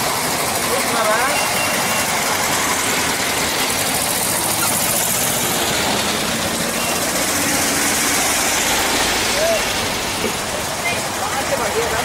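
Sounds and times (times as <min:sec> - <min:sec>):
vans driving past: 0:00.0 - 0:12.0.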